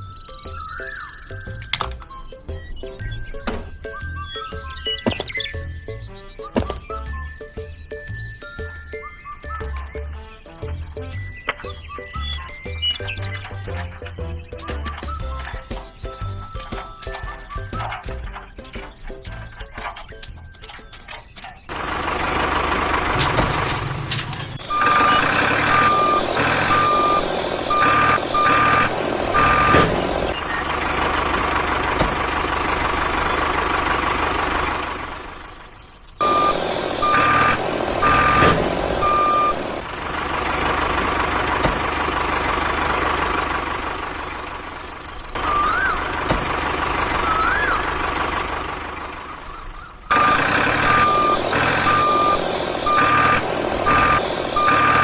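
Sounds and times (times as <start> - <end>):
engine running: 0.0 - 55.0
truck reversing alarm beeping: 0.0 - 55.0.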